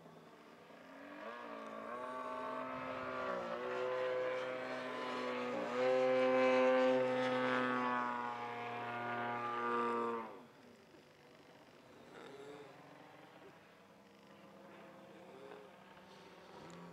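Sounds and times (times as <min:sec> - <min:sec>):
model aircraft propeller drone: 0:00.0 - 0:16.9.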